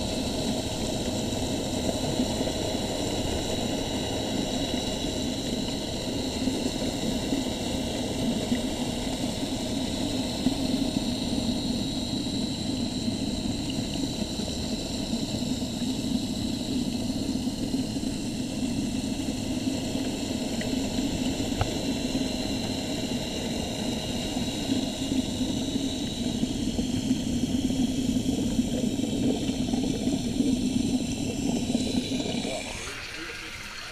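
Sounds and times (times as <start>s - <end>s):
water pump humming: 0.0s - 33.9s.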